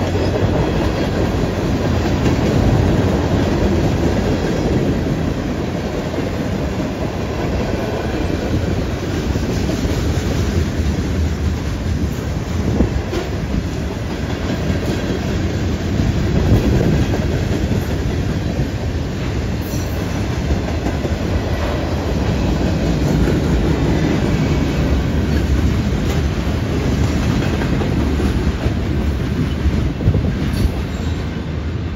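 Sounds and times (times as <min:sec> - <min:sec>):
steel wheels rumbling on rail: 0:00.0 - 0:31.9.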